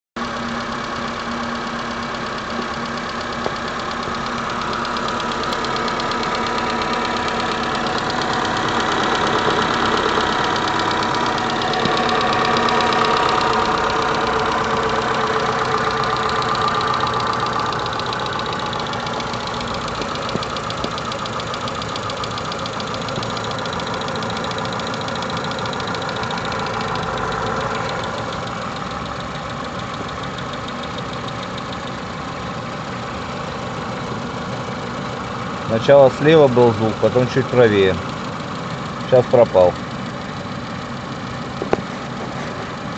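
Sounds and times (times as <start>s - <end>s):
car engine knocking: 0.2s - 42.9s.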